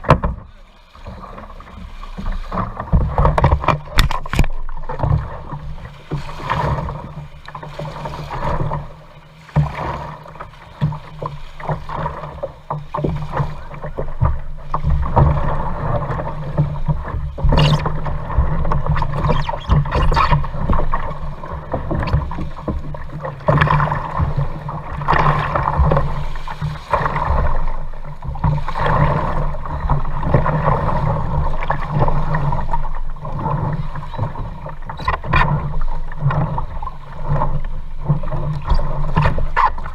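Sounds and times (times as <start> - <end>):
paddles splashing in water: 0.0 - 39.9.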